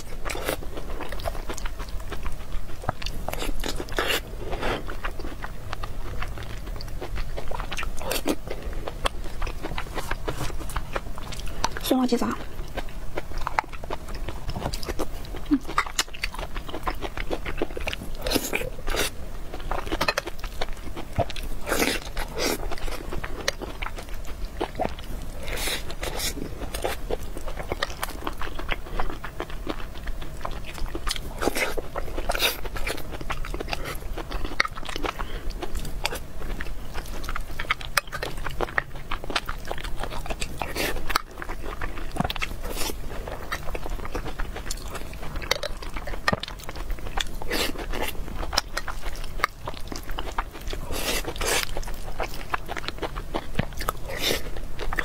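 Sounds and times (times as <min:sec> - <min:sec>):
chewing and mouth clicks: 0:00.0 - 0:55.0.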